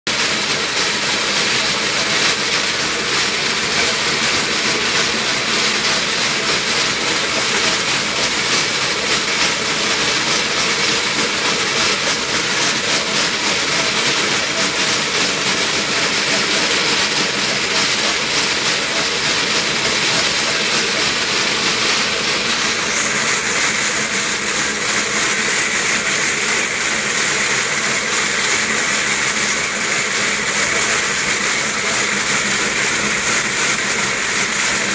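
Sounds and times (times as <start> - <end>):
treadmill whirring and rattling: 0.1 - 34.9.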